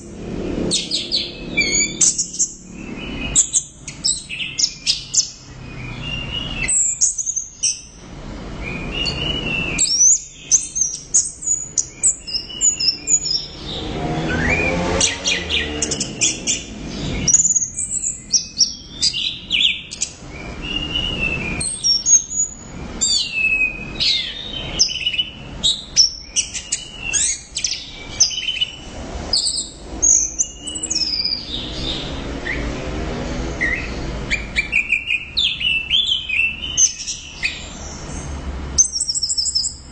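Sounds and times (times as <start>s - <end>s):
thrush singing high chirps: 0.0s - 32.9s, 33.6s - 39.9s.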